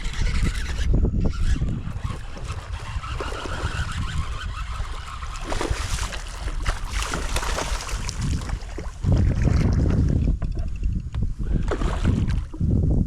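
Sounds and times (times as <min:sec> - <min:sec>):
wind rumbling on microphone: 0:00.0 - 0:13.0
water splashing against kayak: 0:01.4 - 0:10.7, 0:11.5 - 0:12.7.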